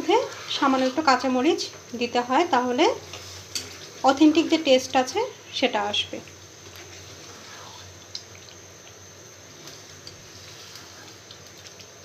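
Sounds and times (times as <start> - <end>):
sauce sizzling and bubbling in a pan: 0.0 - 12.0.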